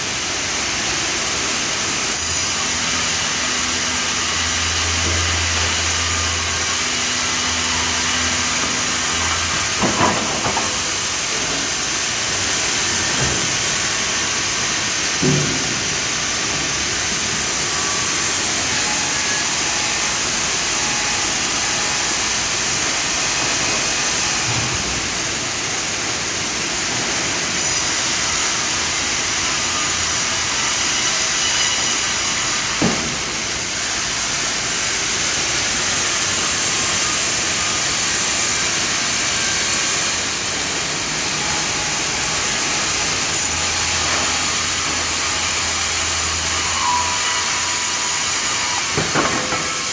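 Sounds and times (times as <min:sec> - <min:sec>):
band sawmill running: 0:00.0 - 0:49.9.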